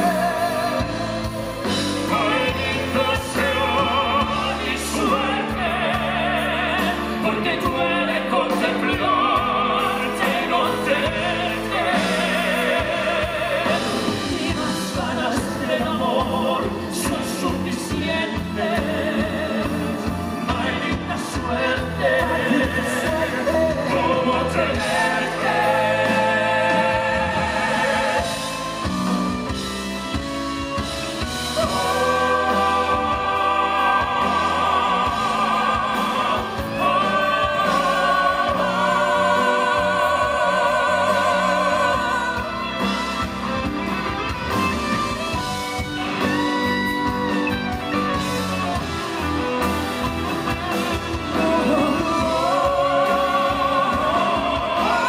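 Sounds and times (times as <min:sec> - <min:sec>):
male vocal quartet singing: 0:00.0 - 0:29.6, 0:30.8 - 0:43.9, 0:51.0 - 0:55.0
band playing: 0:00.0 - 0:55.0.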